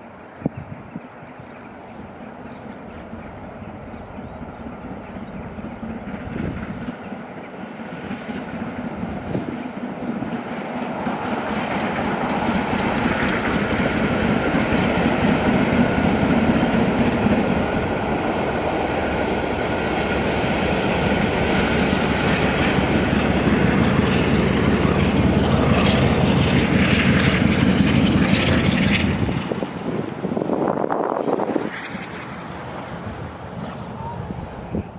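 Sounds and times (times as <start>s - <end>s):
steam train running past: 1.1s - 34.9s.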